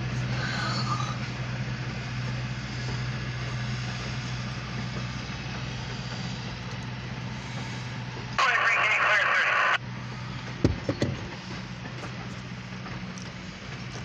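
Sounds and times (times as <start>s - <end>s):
train coaches rumbling on track: 0.0s - 8.4s, 9.8s - 14.0s
steady low hum: 0.0s - 14.0s.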